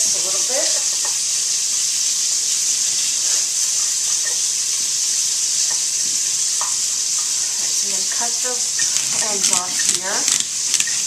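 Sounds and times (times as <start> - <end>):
sausage sizzling in a pot: 0.0 - 11.0.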